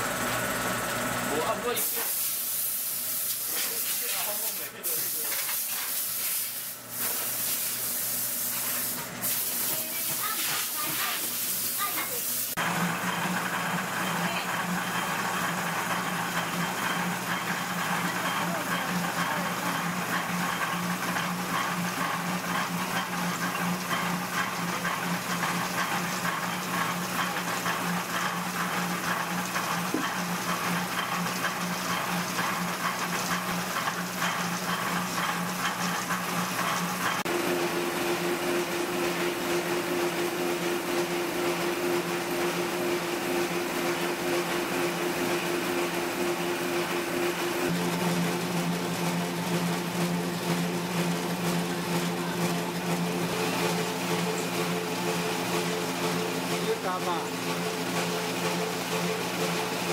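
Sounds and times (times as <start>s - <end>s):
electric dough mixer running: 0.0s - 2.0s, 7.8s - 59.9s.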